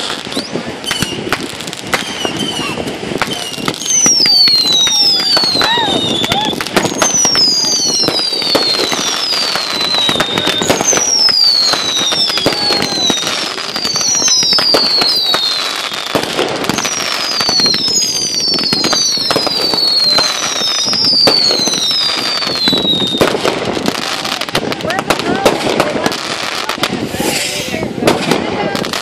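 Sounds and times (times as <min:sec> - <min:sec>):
falling firework whistles: 0:00.0 - 0:24.4
crackle of small pops and bangs: 0:00.0 - 0:27.0.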